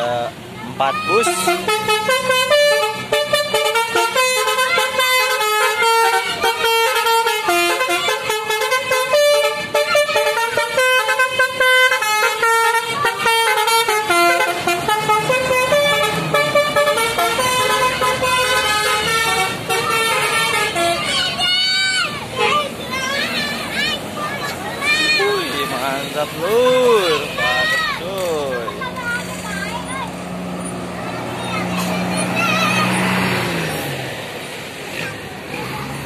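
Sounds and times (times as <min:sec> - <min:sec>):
multi-tone musical bus horn: 0:00.9 - 0:30.0.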